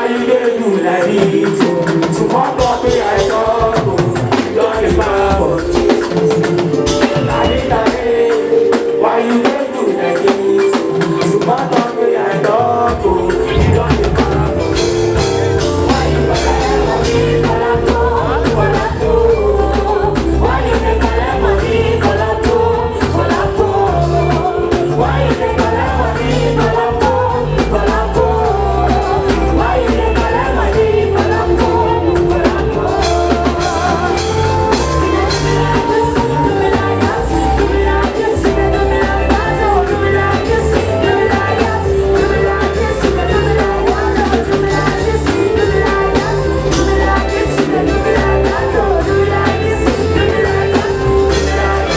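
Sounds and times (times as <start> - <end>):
live music with heavy bass: 0.0 - 51.9
person singing: 0.0 - 51.9.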